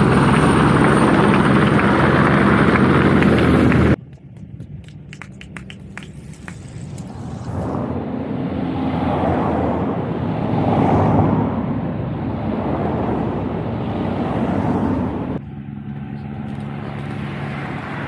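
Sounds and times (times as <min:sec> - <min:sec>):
cars driving past: 0:00.0 - 0:18.0
low engine hum: 0:00.0 - 0:18.0.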